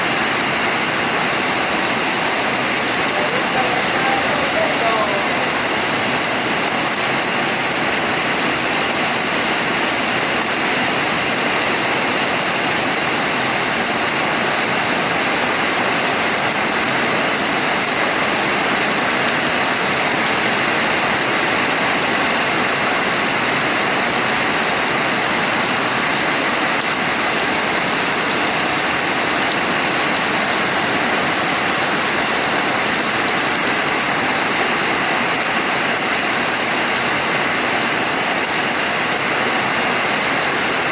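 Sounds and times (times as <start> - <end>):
dense rain hiss: 0.0 - 40.9.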